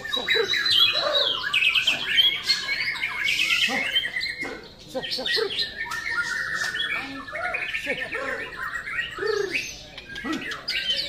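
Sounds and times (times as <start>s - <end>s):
birds singing whistled phrases: 0.0s - 11.0s.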